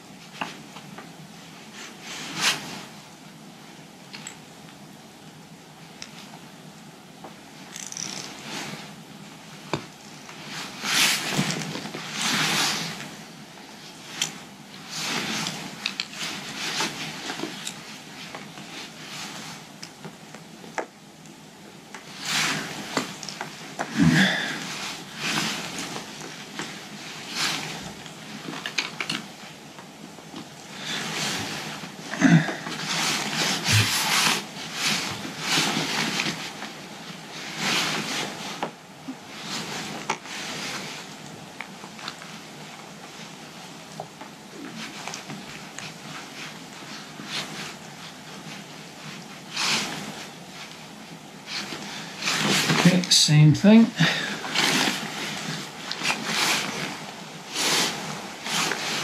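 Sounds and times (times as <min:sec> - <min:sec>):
nylon straps rustling and scraping: 0:01.6 - 0:03.0, 0:07.7 - 0:20.7, 0:22.0 - 0:53.1, 0:53.8 - 0:59.0.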